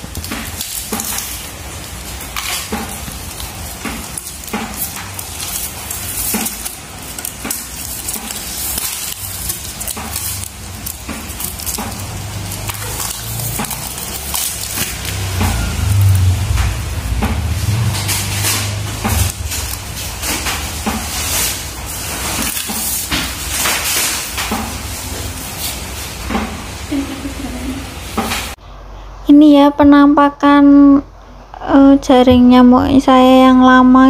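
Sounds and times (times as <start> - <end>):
plastic wrapping crinkling: 0.0 - 28.6.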